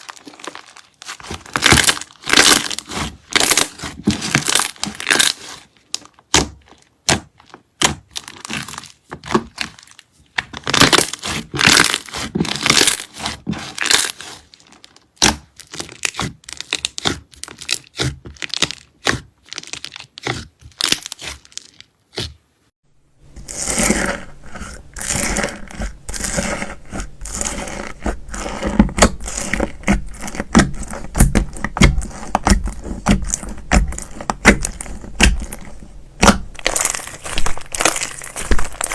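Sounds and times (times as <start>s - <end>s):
slime crackling and popping: 0.0s - 22.3s, 24.9s - 38.9s
slime squishing: 0.0s - 22.4s, 23.2s - 38.9s.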